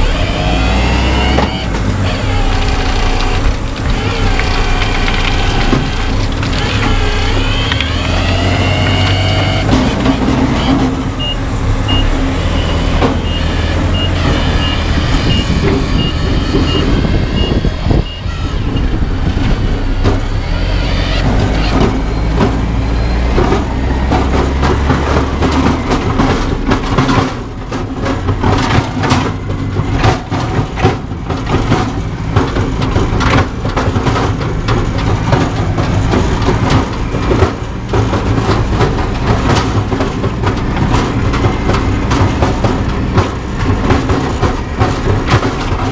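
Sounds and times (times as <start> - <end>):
rattling clatter of knocks: 0.0 - 45.9
tractor diesel engine running: 0.0 - 45.9.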